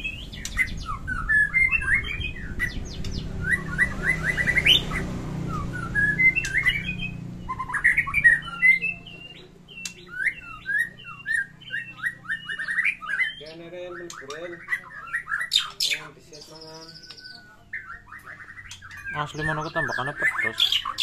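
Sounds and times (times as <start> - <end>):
bird singing varied song: 0.0 - 21.0.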